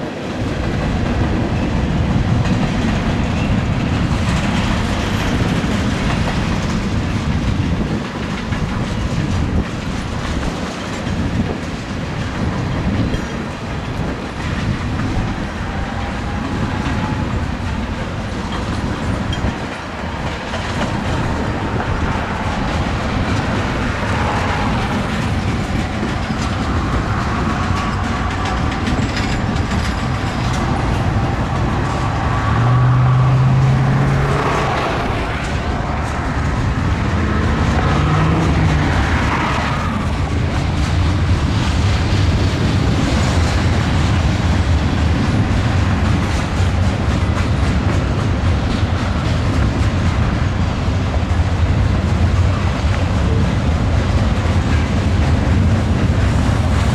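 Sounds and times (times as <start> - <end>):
train wheels clattering over rail joints: 0.0 - 56.9.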